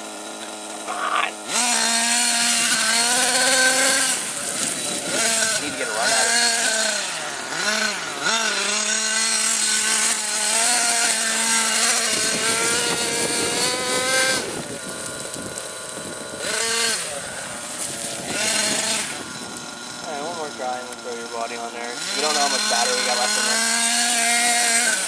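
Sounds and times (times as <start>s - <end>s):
toy car electric motor whining: 0.0s - 25.0s.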